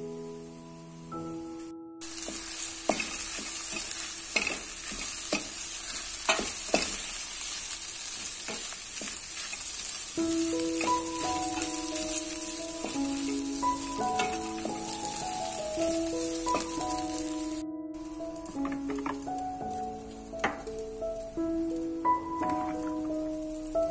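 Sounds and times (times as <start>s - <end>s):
soft background music: 0.0s - 5.5s, 10.2s - 23.9s
food sizzling in a pan: 1.2s - 23.9s.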